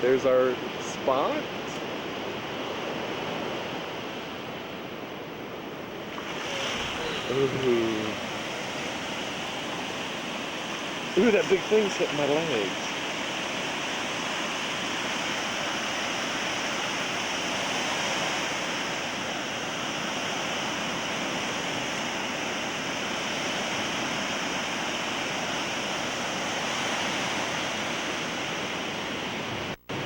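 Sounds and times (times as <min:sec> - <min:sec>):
ocean waves breaking: 0:00.0 - 0:30.0.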